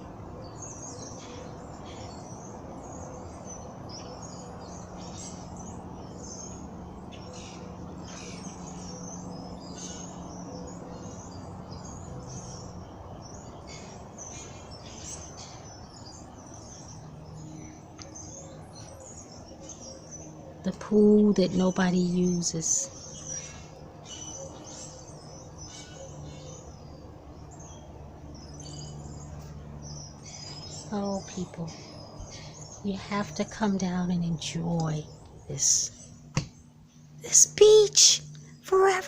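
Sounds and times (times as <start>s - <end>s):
birds chirping and singing: 0.0s - 39.0s
low background hum: 0.0s - 39.0s.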